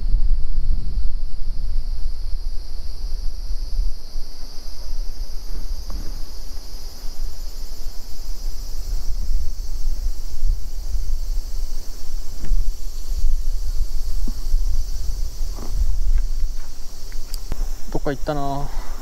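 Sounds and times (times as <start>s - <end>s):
insects chirring: 0.0s - 19.0s
wind buffeting microphone: 0.0s - 19.0s.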